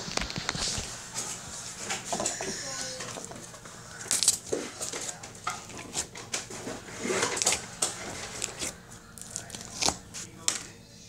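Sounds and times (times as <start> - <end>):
slime squishing: 0.0 - 10.7.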